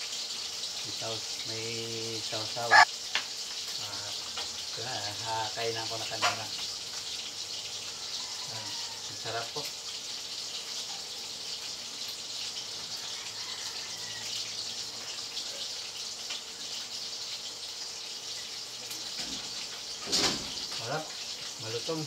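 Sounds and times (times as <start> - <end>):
steady hissing noise: 0.0 - 22.0.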